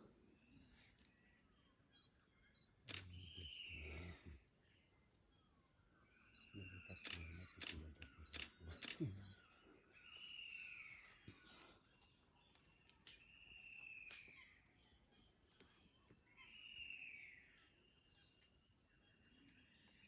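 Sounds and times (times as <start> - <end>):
jungle insects droning: 0.0 - 20.0.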